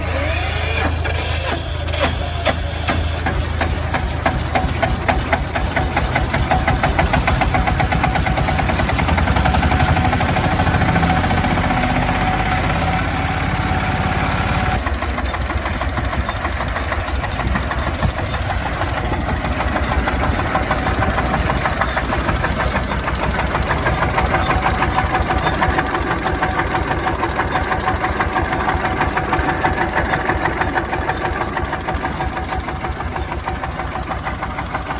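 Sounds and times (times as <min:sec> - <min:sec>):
diesel engine knocking: 0:00.0 - 0:34.9.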